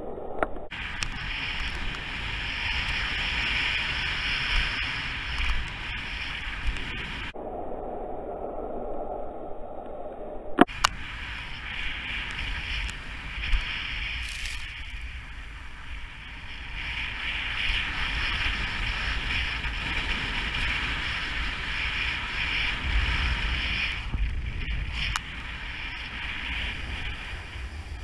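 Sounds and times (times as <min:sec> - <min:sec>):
wind buffeting microphone: 0:00.0 - 0:28.0
snowboard sliding over snow: 0:00.7 - 0:07.4, 0:10.7 - 0:28.0.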